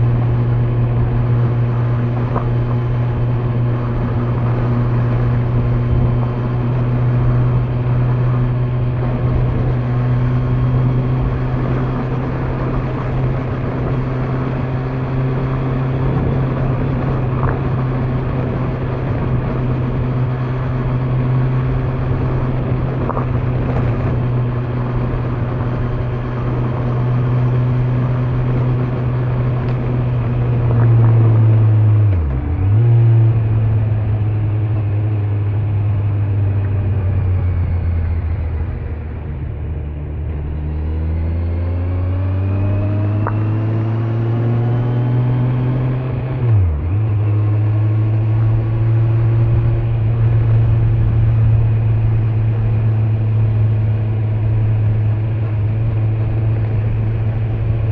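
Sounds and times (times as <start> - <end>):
motorcycle engine cruising: 0.0 - 57.9
wind and road noise: 0.0 - 57.9.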